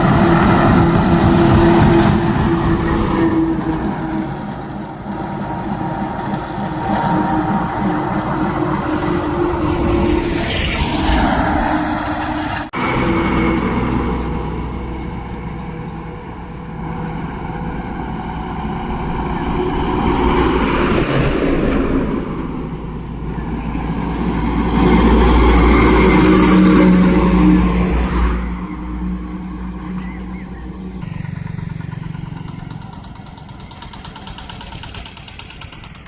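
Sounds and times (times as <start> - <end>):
truck diesel engine under load: 0.0 - 36.0.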